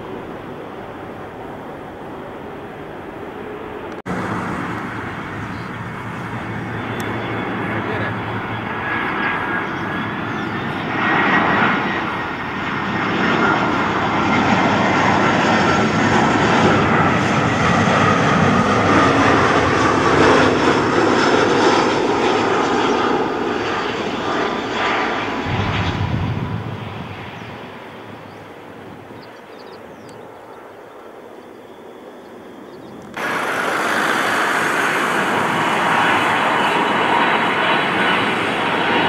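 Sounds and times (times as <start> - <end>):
jet airliner passing by: 0.0 - 39.0.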